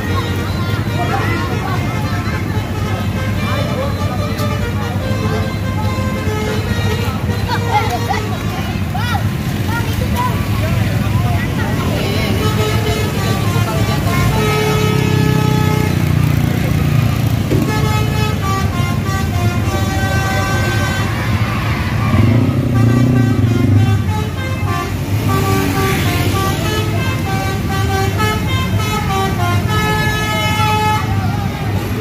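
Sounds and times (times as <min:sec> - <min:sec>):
bus musical horn melody: 0:00.0 - 0:09.7, 0:10.4 - 0:32.0
bus engines rumbling: 0:00.0 - 0:32.0.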